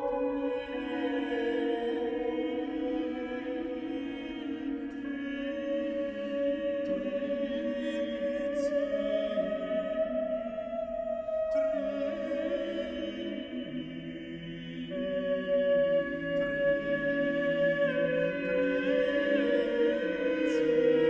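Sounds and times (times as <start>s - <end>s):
vocal ensemble singing: 0.0s - 21.0s.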